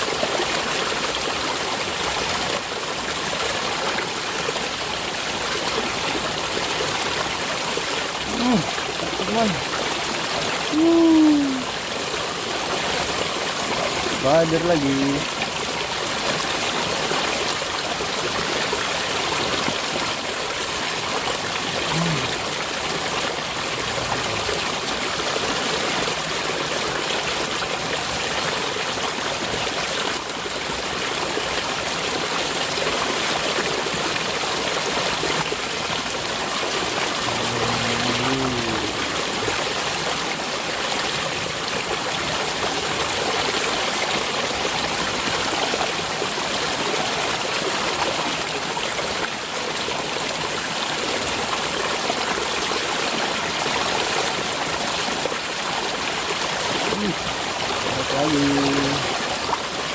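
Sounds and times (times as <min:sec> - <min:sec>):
water flowing in ditch: 0:00.0 - 0:59.9.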